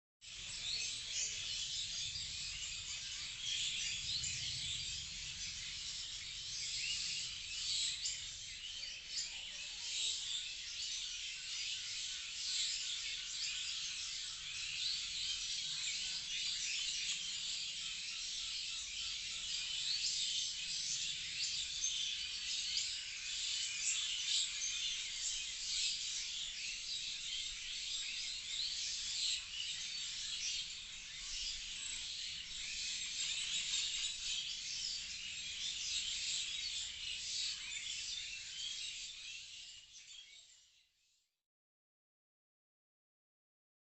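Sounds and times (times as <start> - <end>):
small birds chirping: 0.2 - 41.0.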